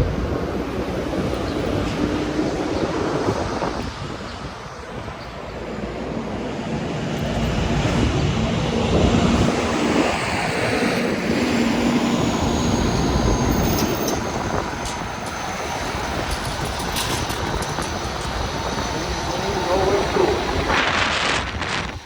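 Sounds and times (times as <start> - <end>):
city street traffic: 0.0 - 22.0
vehicle noise: 0.0 - 22.0
wind rushing over microphone: 0.0 - 22.0.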